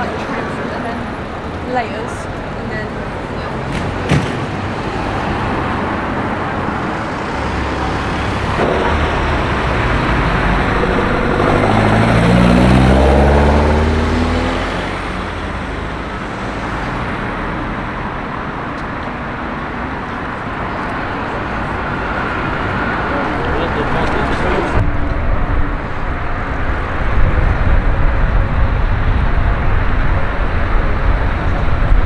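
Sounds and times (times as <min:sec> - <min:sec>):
car driving past: 0:00.0 - 0:18.3, 0:19.8 - 0:32.0
city street traffic: 0:00.0 - 0:32.0.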